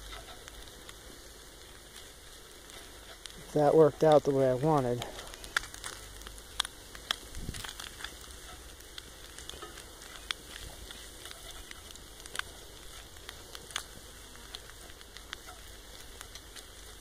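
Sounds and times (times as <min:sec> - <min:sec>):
fire crackling pops: 0:00.0 - 0:17.0.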